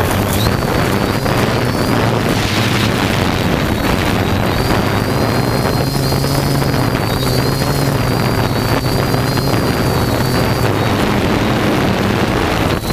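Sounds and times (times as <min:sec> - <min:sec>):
drone propellers buzzing: 0:00.0 - 0:12.9
wind rumble on microphone: 0:00.0 - 0:12.9.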